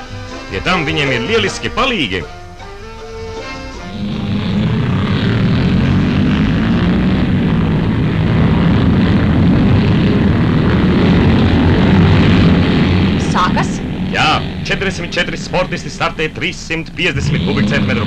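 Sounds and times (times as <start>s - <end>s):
motorcycles engine drone: 0.0s - 18.0s.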